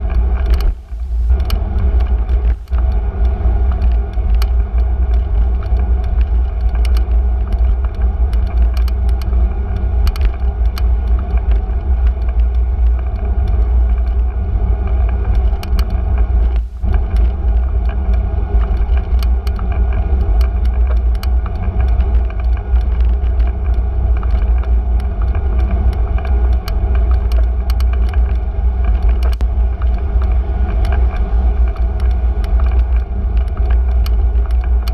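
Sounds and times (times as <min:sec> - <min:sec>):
bicycle clicks and rattles: 0:00.0 - 0:34.9
bicycle wind and road rumble: 0:00.0 - 0:34.9.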